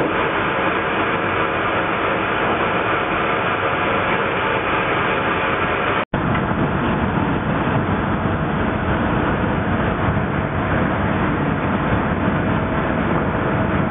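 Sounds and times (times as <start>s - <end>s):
timber milling machinery running: 0.0s - 13.9s.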